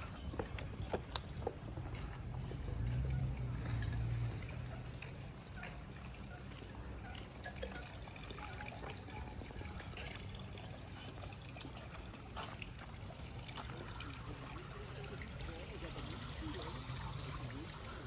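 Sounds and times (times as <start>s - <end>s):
low steady rumble: 0.0s - 18.0s
water trickling and splashing: 0.0s - 18.0s.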